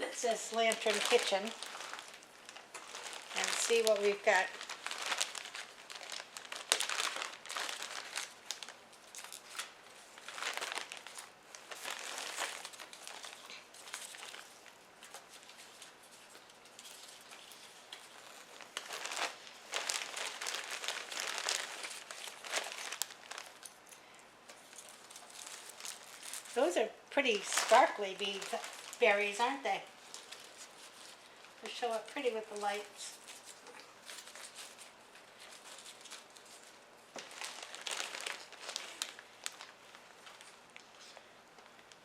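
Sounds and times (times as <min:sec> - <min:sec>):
plastic bag crinkling and rustling: 0:00.0 - 0:42.0.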